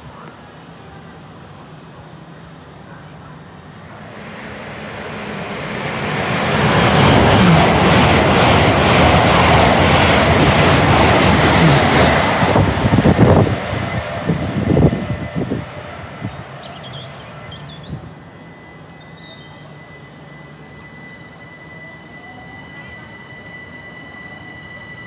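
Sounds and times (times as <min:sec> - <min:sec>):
train passing at speed: 0:03.4 - 0:25.0.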